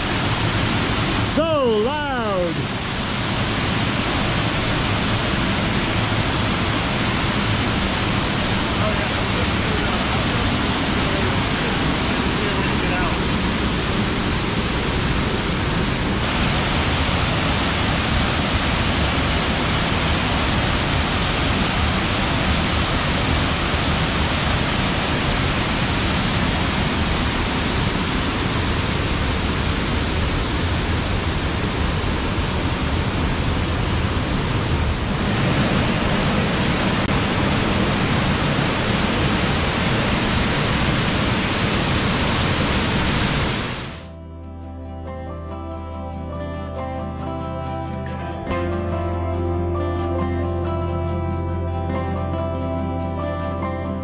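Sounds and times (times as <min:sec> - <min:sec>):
waterfall rushing: 0:00.0 - 0:44.1.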